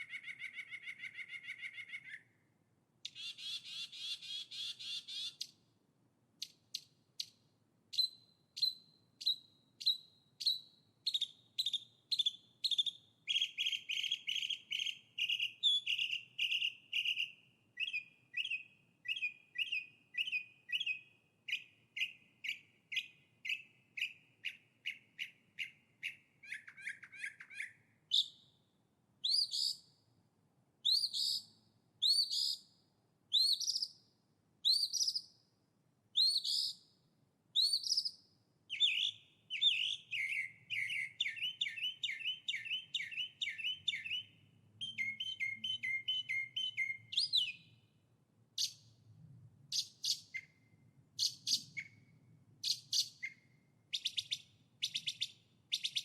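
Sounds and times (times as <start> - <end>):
songbird chirping: 0.0 - 5.8, 6.4 - 30.2, 30.8 - 48.0, 48.6 - 56.0.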